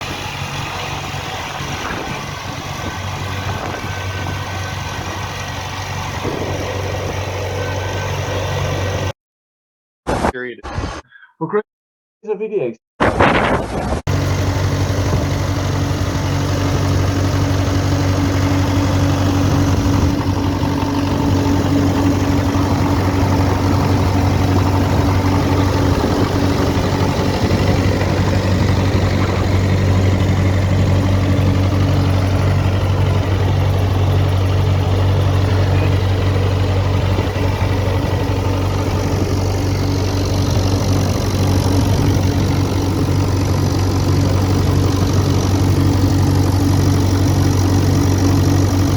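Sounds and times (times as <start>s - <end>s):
tractor engine idling: 0.0s - 9.1s, 14.1s - 48.9s.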